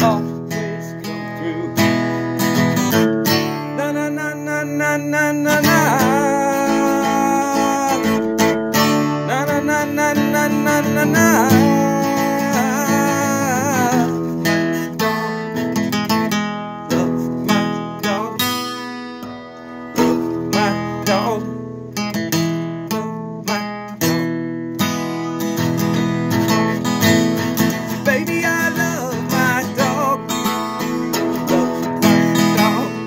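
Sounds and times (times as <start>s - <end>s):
man singing: 0.0s - 24.2s, 27.5s - 33.0s
acoustic guitar strumming: 0.0s - 33.0s.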